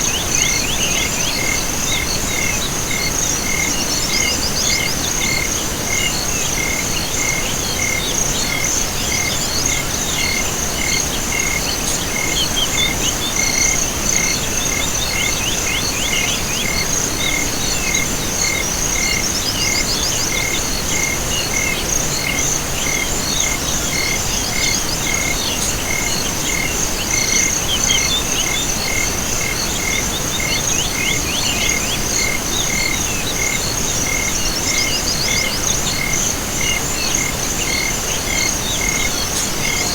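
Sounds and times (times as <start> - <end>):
regular cricket chirps: 0.0 - 39.9.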